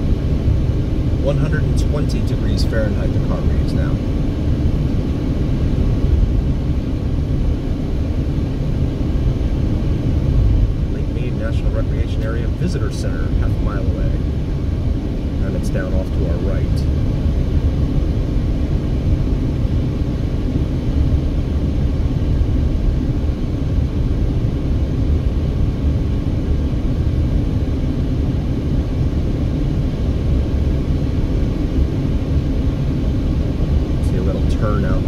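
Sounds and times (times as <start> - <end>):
car cabin road and engine rumble: 0.0 - 35.0.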